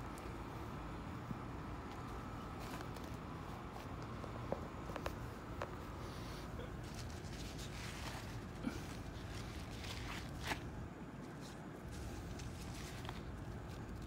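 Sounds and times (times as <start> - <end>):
low background noise: 0.0 - 14.0.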